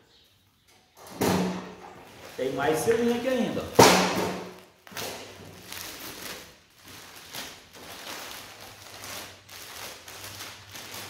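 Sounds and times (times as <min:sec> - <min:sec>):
plastic bag rustling: 0:01.8 - 0:11.0.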